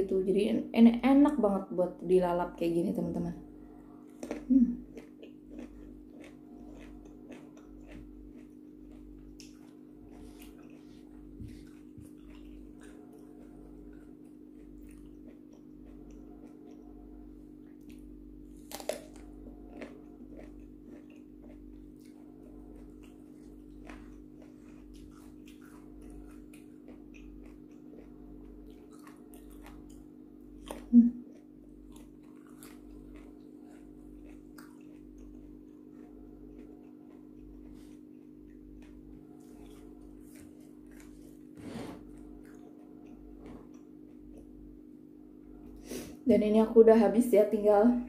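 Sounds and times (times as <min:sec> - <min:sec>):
low steady hum: 0:00.0 - 0:48.0
person chewing food: 0:03.5 - 0:46.2.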